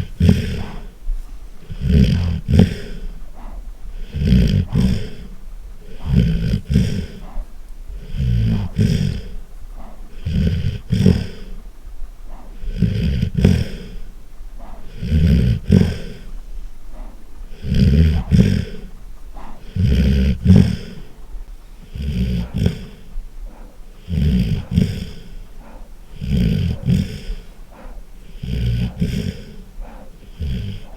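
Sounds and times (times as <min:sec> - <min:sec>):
dog snoring loudly: 0:00.0 - 0:30.9.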